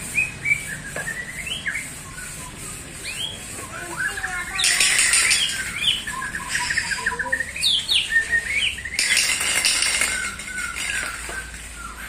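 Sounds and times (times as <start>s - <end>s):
harsh noisy bursts: 0.0s - 11.6s
birds chirping and whistling: 0.0s - 12.0s.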